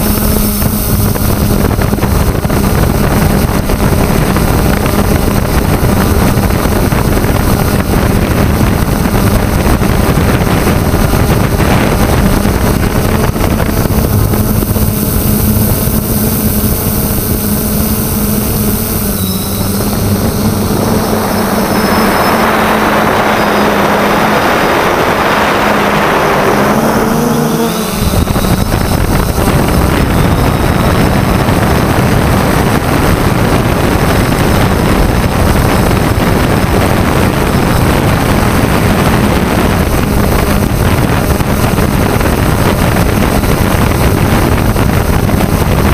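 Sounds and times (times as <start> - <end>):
drone propellers humming: 0.0 - 45.9
wind noise on microphone: 0.0 - 45.9.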